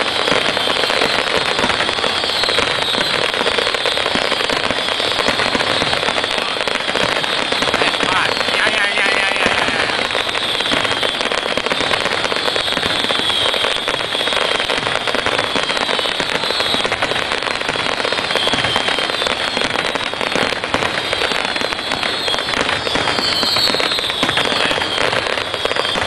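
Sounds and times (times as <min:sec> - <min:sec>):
fireworks crackling bangs: 0:00.0 - 0:26.0
fireworks whistles sliding down: 0:00.0 - 0:26.0.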